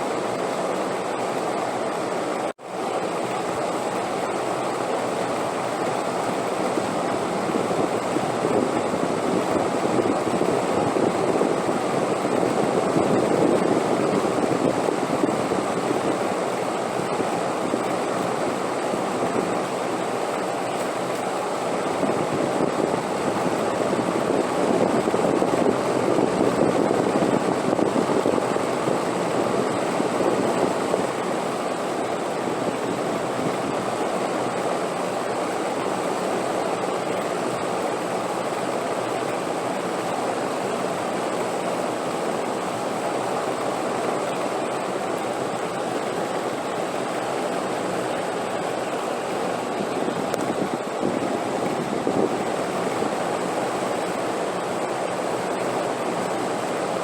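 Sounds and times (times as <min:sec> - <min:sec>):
rushing wind noise: 0:03.3 - 0:57.0.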